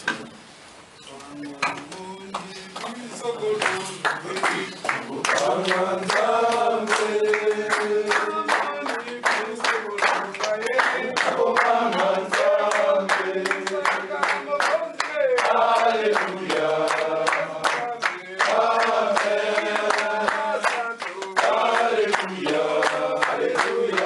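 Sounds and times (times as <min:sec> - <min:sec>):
men singing and chanting: 0:01.1 - 0:24.0
hand claps: 0:01.6 - 0:24.0.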